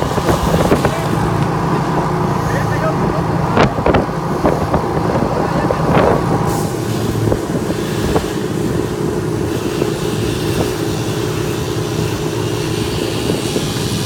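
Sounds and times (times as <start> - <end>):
engine running with low rumble: 0.0 - 14.0.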